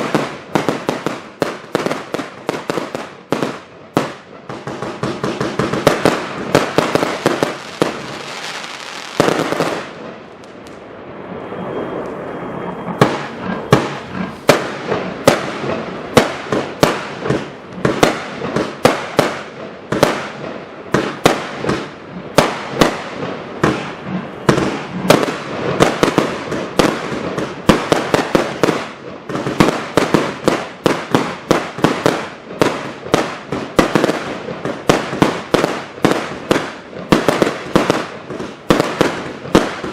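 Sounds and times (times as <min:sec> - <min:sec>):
fireworks banging rapidly: 0:00.0 - 0:10.3, 0:12.9 - 0:39.9
firework crackle: 0:00.0 - 0:39.9.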